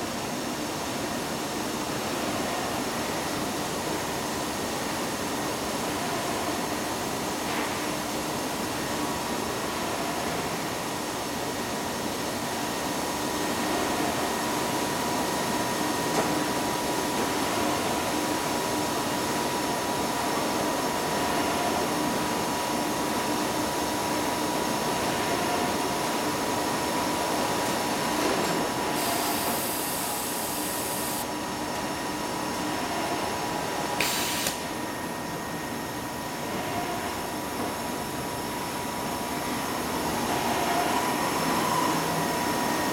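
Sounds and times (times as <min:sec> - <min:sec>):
printing press machine noise: 0:00.1 - 0:42.9.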